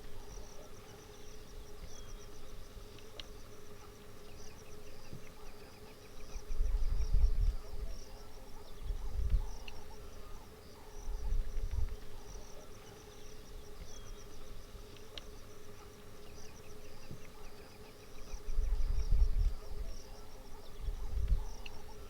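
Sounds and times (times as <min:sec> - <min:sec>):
insects chirping: 0:00.0 - 0:22.0
steady low hum: 0:00.0 - 0:22.0.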